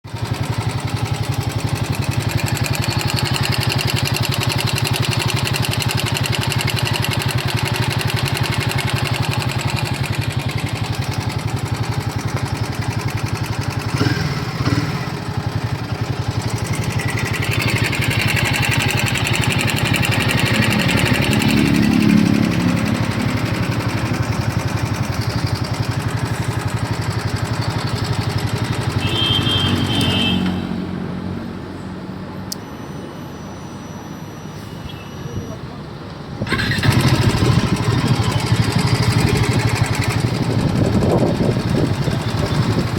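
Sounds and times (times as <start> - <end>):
motorcycle engine idling: 0.1 - 30.4, 36.4 - 42.9.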